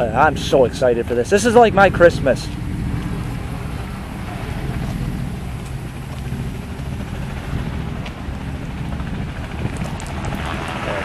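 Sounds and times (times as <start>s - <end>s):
engine running: 0.0s - 11.0s
wind buffeting microphone: 0.0s - 11.0s.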